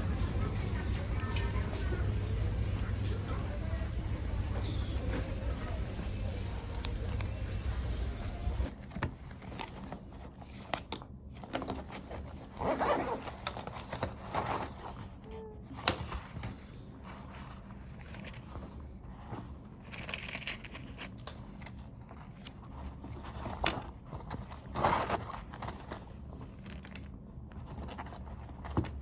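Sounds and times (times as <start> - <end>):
low steady hum: 0.0 - 29.0
rustling and scraping: 5.0 - 29.0.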